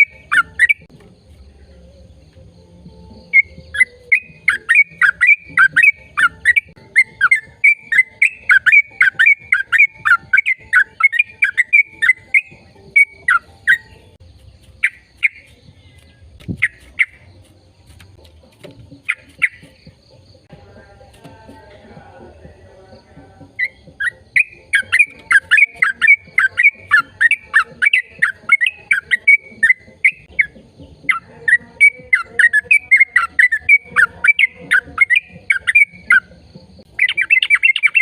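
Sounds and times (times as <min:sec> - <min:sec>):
bird chirping: 0:00.0 - 0:38.0.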